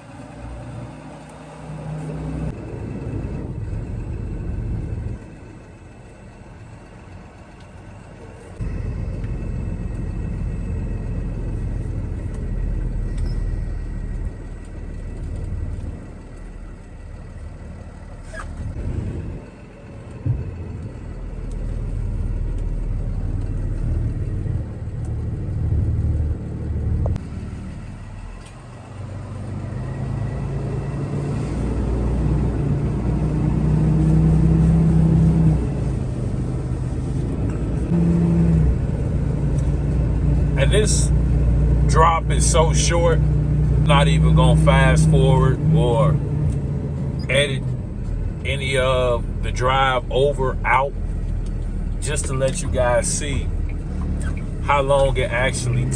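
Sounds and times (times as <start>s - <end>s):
road rumble: 0.0s - 55.9s
truck engine accelerating: 0.0s - 55.9s.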